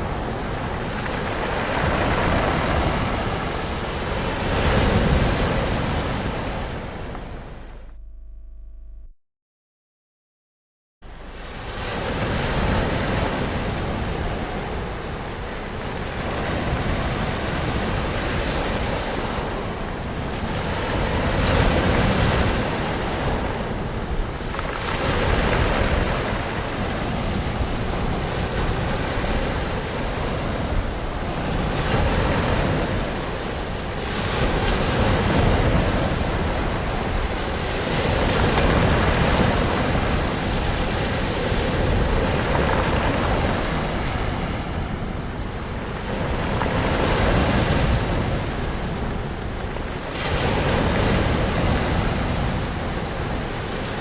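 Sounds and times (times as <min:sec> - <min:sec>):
ocean waves breaking: 0:00.0 - 0:07.8, 0:11.1 - 0:54.0
wind rumble on microphone: 0:00.0 - 0:08.4, 0:11.1 - 0:54.0.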